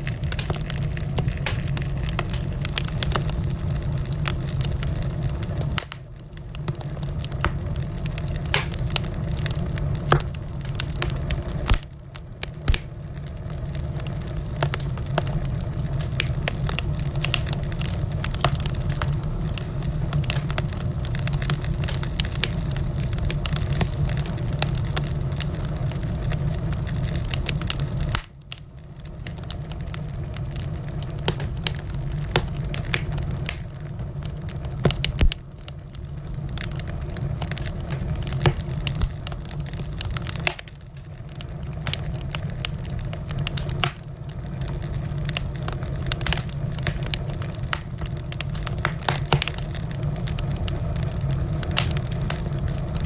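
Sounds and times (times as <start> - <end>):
low rumble of flames: 0.0 - 53.0
wood fire crackling and popping: 0.0 - 53.0.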